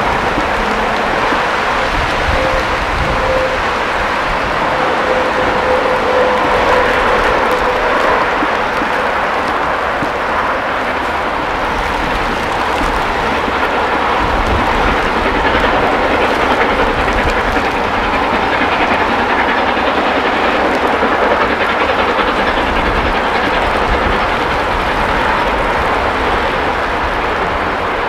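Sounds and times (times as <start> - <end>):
distant steam locomotive exhaust: 0.0 - 28.0
wind buffeting microphone: 0.0 - 28.0.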